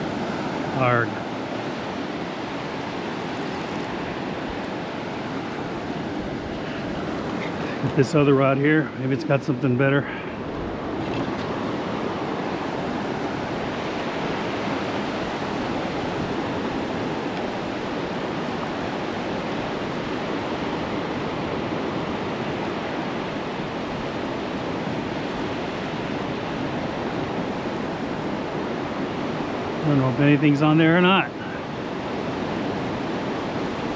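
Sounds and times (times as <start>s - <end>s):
surf waves breaking: 0.0s - 33.9s
wind: 0.0s - 33.9s.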